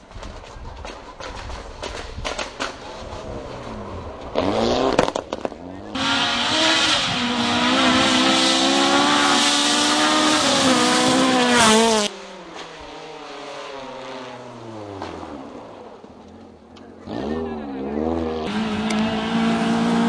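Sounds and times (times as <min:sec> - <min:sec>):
rally car engine at high revs: 0:01.3 - 0:20.0.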